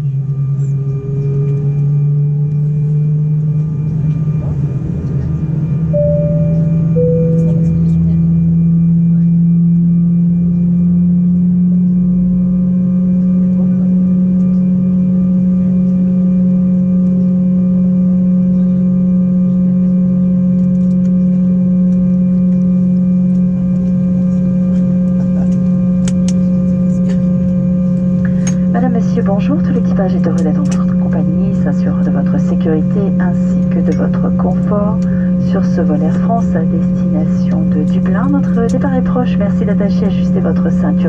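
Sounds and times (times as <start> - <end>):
aircraft cabin drone: 0.0 - 41.0.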